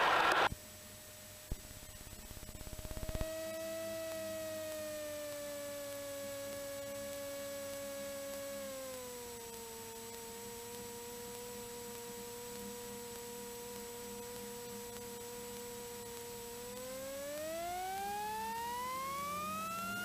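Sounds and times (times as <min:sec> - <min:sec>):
light aircraft engine running: 0:00.7 - 0:13.8, 0:14.7 - 0:20.0.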